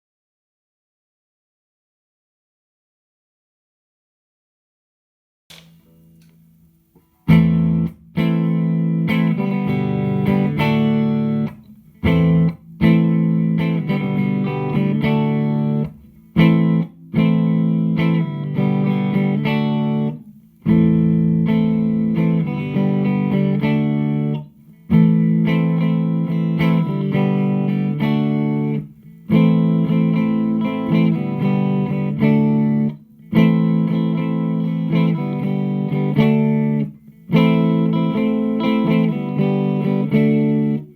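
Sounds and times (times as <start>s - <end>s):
electric guitar chords: 7.0s - 40.9s.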